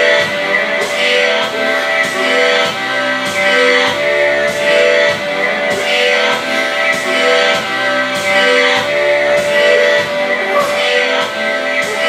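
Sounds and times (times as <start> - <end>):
loud music with sustained chords: 0.0 - 12.0.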